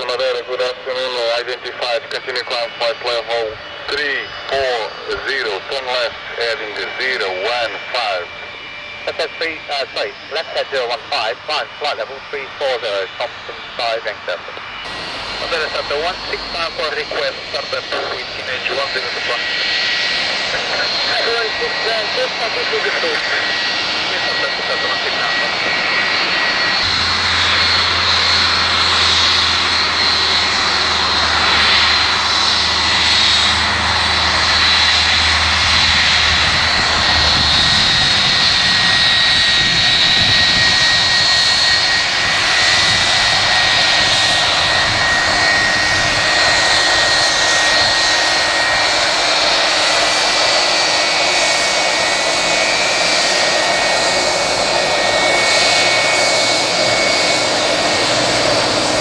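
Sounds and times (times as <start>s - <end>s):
jet engines running with high whine: 0.0s - 59.0s.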